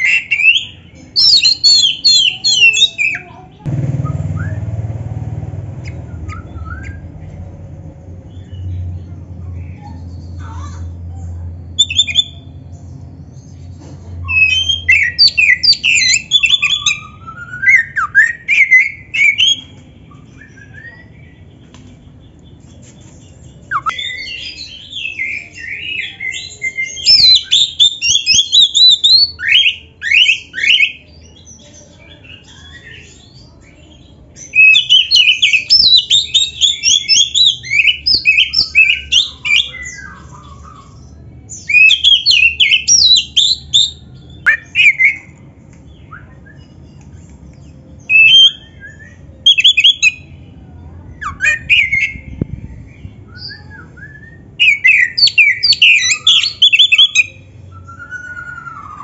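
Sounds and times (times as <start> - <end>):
bird singing whistles and chatter: 0.0 - 7.2, 11.7 - 59.0.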